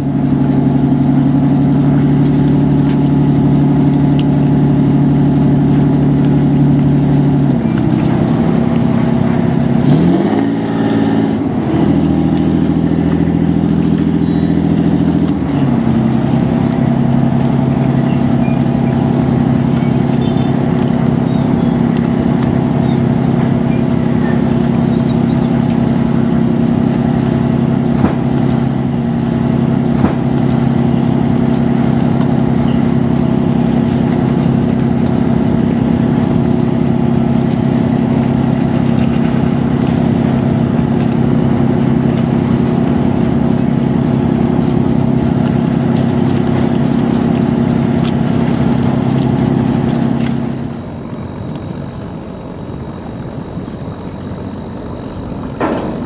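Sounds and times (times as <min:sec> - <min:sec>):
boat diesel engine droning: 0:00.0 - 0:56.0.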